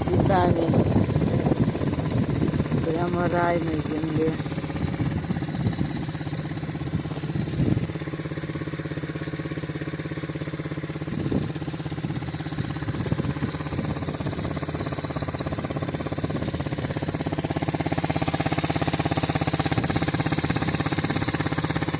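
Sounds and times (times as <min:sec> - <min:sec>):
engine running with pulsing hum: 0:00.0 - 0:21.9.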